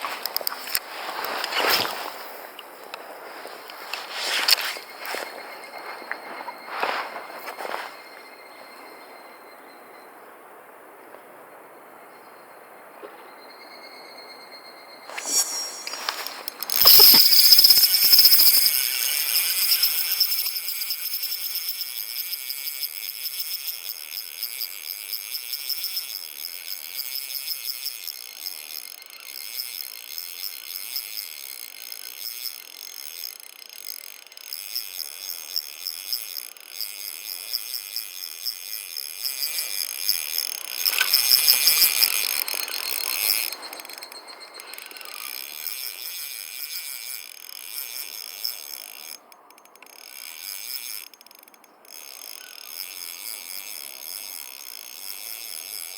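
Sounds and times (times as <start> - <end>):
cicadas shrilling: 0.0 - 11.0, 11.9 - 55.9.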